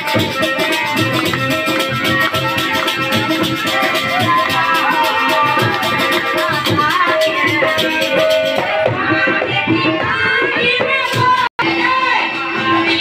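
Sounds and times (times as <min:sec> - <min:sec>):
folk singing: 0:00.0 - 0:13.0
hand drums: 0:00.0 - 0:13.0.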